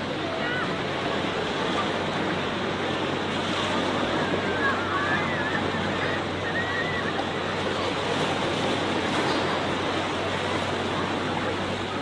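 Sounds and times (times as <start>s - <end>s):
distant crowd voices: 0.0s - 12.0s
small waves washing on shore: 0.0s - 12.0s.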